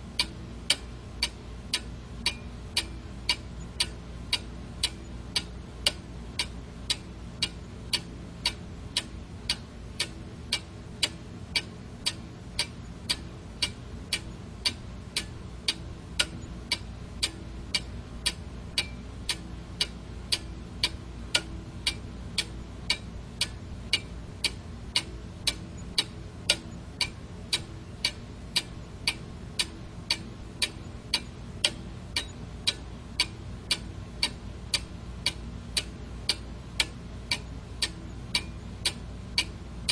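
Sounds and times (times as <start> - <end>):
clock ticking: 0.2 - 39.9.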